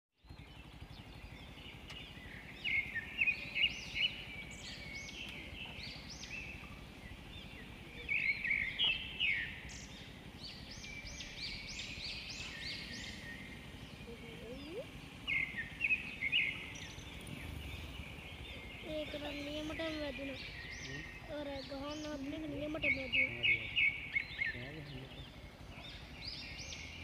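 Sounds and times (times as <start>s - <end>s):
birds chirping: 0.2s - 27.0s
low background noise: 0.3s - 27.0s.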